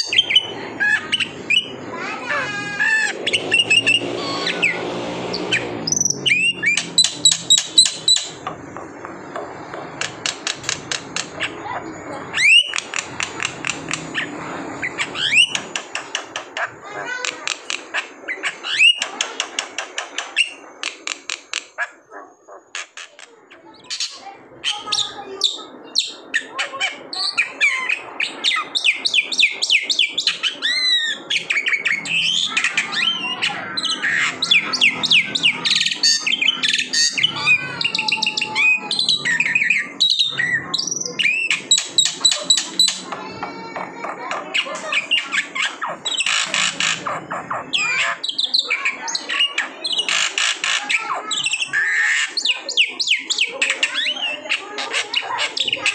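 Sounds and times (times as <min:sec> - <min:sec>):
bird singing varied song: 0:00.0 - 0:55.9.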